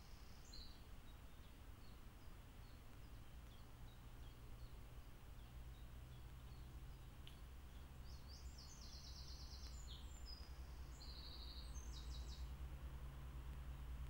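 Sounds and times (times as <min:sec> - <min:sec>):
low hum and hiss: 0:00.0 - 0:14.0
small songbird singing: 0:00.0 - 0:14.0.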